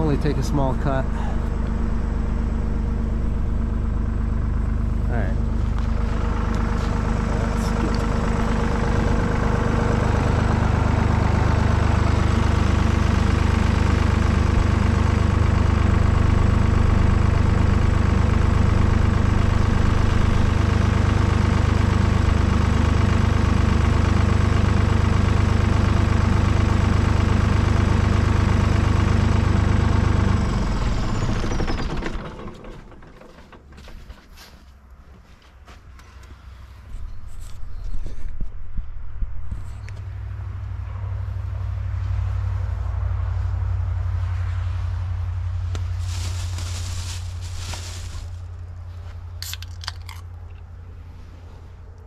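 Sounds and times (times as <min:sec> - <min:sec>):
tractor engine running: 0:00.0 - 0:35.0, 0:39.3 - 0:52.0.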